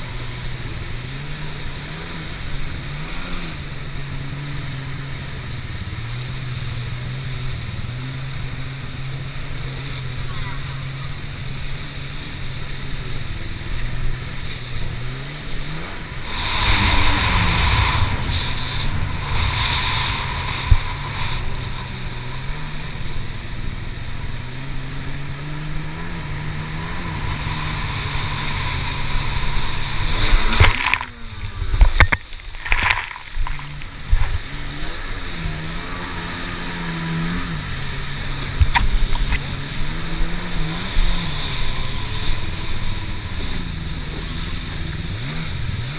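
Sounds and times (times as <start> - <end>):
jet ski engine running: 0.0 - 45.9
rushing water spray: 0.0 - 45.9
wind: 0.0 - 45.9.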